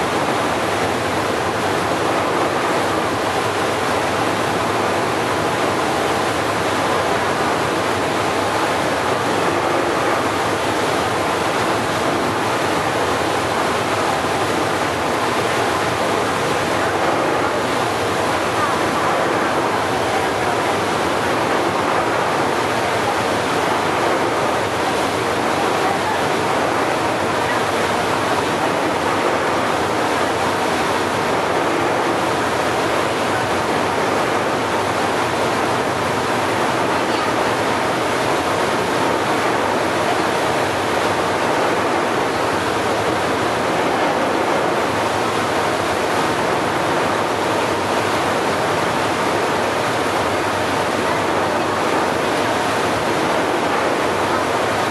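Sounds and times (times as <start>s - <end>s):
sea waves: 0.0s - 54.9s
wind: 0.0s - 54.9s.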